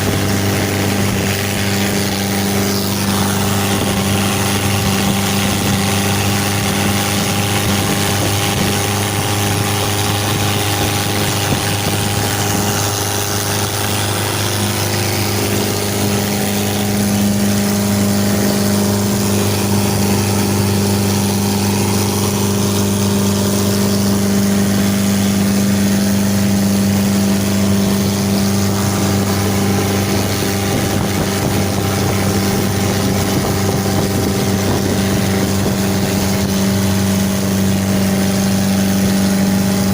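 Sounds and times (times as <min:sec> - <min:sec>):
van engine running: 0:00.0 - 0:39.9.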